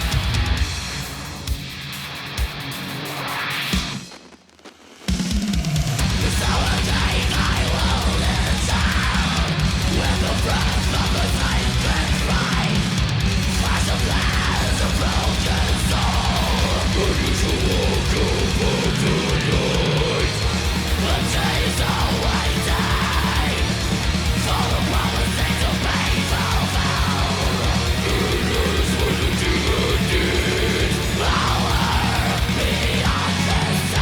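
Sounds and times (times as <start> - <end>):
distorted electric guitar: 0.0 - 34.0
heavy metal music: 0.0 - 34.0.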